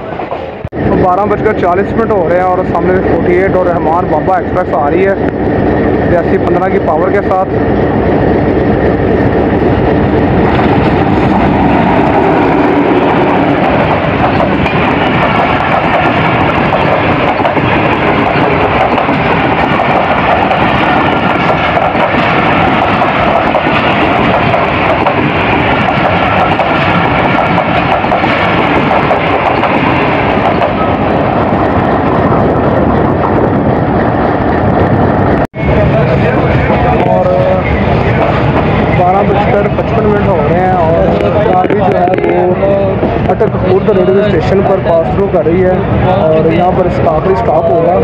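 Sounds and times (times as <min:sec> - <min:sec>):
train passing: 0:00.0 - 0:48.0.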